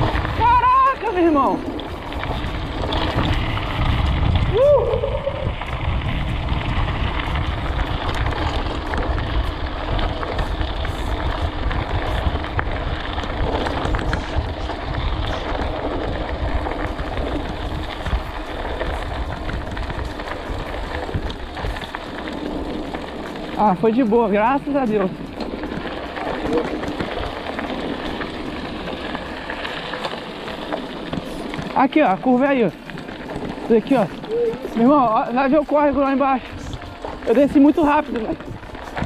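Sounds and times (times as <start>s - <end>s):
bike rattles and clicks: 0.0s - 39.0s
bike tyres rolling on gravel: 0.0s - 39.0s
wind buffeting microphone: 0.0s - 39.0s.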